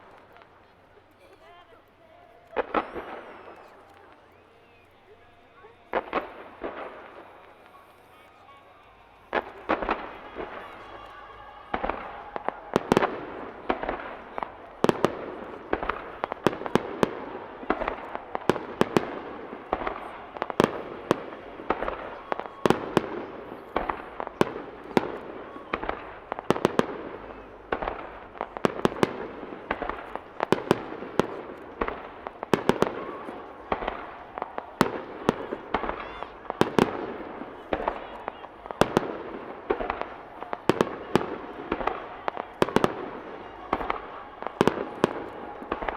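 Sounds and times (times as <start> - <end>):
firework shells bursting: 2.4 - 45.9.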